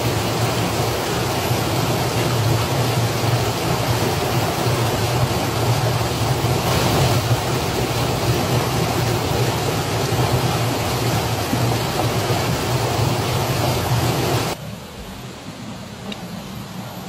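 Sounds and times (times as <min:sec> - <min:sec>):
water rushing over weir: 0:00.0 - 0:17.0.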